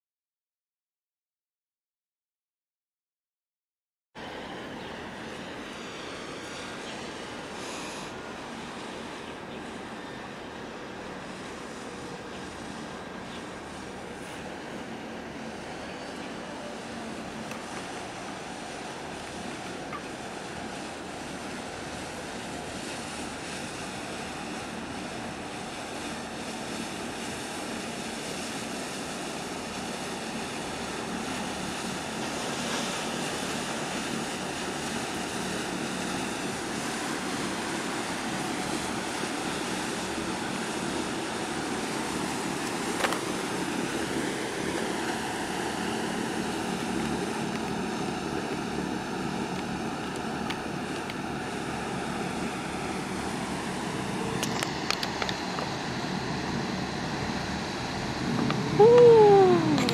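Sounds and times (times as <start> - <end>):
ship engines droning: 4.2 - 59.9
water wash: 4.2 - 59.9.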